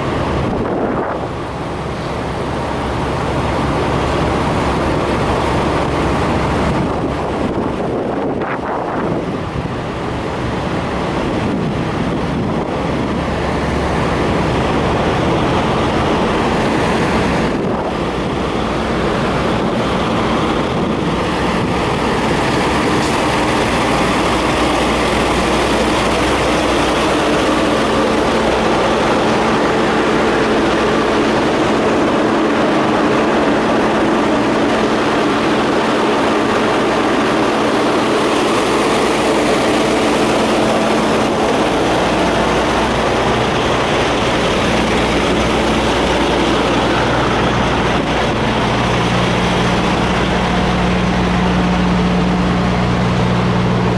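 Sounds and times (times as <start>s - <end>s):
diesel truck engines droning: 0.0s - 53.9s
low steady hum: 0.0s - 53.9s.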